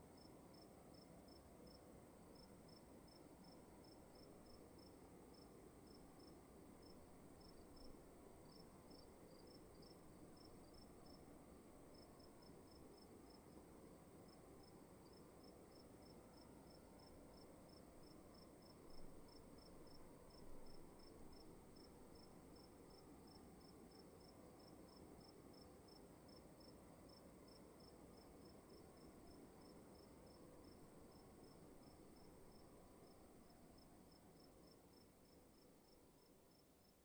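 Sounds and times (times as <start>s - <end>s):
low room hiss: 0.0s - 37.0s
crickets chirping: 0.1s - 36.9s.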